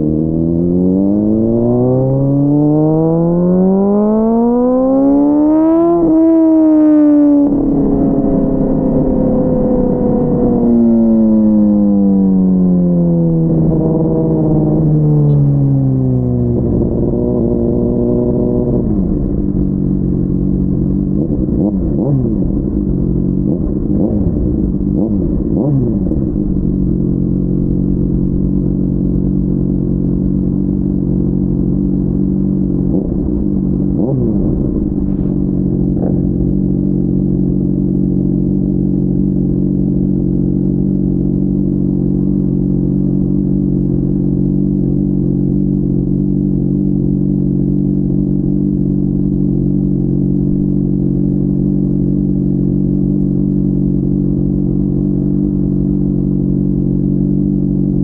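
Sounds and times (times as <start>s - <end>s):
muffled motorcycle engine idling: 0.0s - 58.0s.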